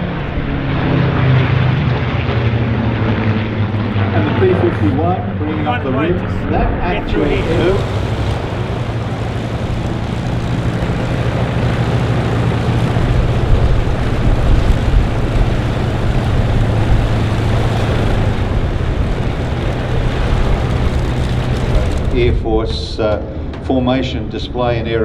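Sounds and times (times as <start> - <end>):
propeller planes engine drone: 0.0 - 25.0.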